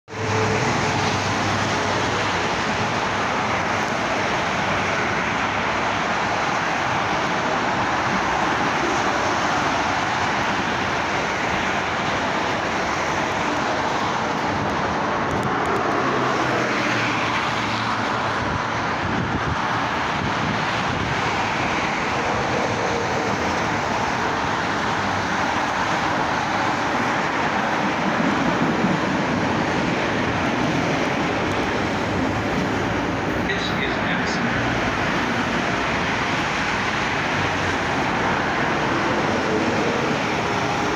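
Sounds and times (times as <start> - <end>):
expressway traffic: 0.0 - 40.9
train rumbling into station: 0.1 - 40.9.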